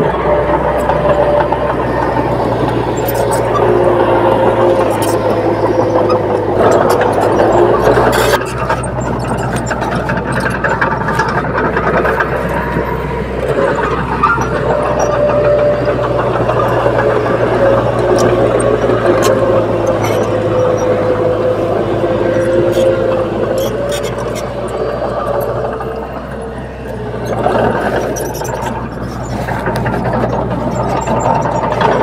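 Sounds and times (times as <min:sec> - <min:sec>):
bulldozer diesel engine: 0:00.0 - 0:32.0
scattered clicks: 0:00.5 - 0:32.0.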